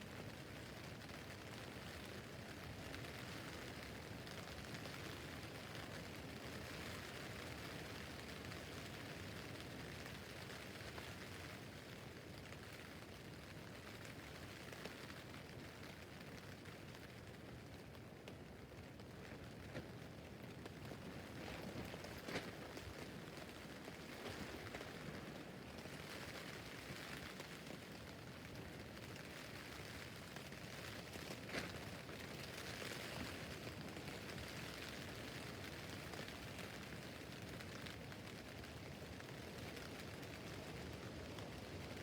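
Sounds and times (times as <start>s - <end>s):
rain pattering on tent roof: 0.0s - 42.0s.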